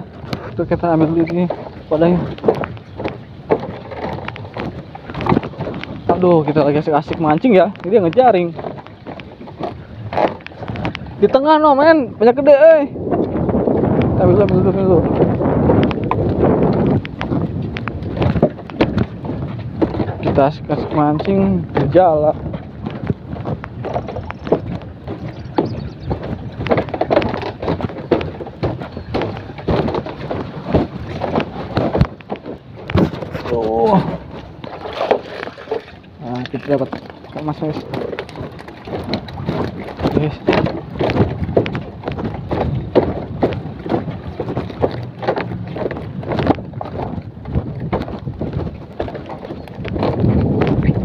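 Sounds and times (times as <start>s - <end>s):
footsteps on bamboo poles: 0.0s - 51.0s
wind buffeting microphone: 0.0s - 51.0s.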